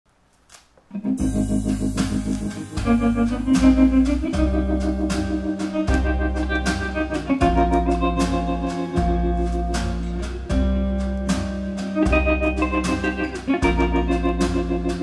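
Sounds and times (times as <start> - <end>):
organ holding chords: 0.9 - 15.0
bass line: 1.2 - 15.0.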